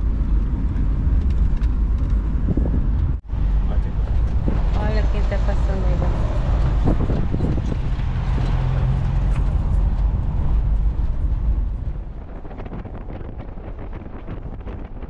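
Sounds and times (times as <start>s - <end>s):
engine and road rumble: 0.0s - 15.0s
wind on microphone: 0.0s - 15.0s.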